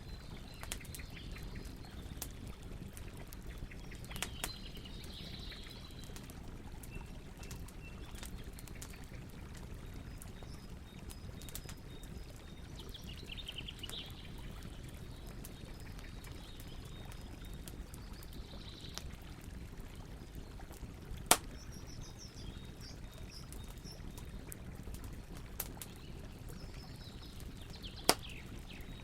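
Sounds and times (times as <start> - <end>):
campfire crackling and popping: 0.0 - 29.0
flowing water: 0.0 - 29.0
small birds chirping: 0.0 - 29.0.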